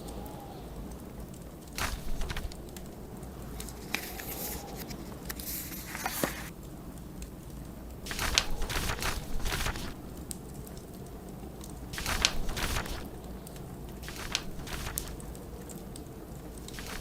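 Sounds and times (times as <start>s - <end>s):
blizzard wind rumbling: 0.0s - 17.0s
wood fire crackling and popping: 0.1s - 17.0s
dry rustles: 1.0s - 17.0s.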